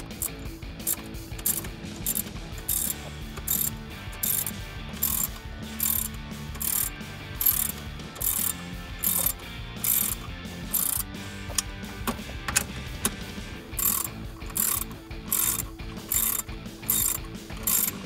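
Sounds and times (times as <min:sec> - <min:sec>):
hand ratchet clicking: 0:00.0 - 0:13.2, 0:13.8 - 0:18.0.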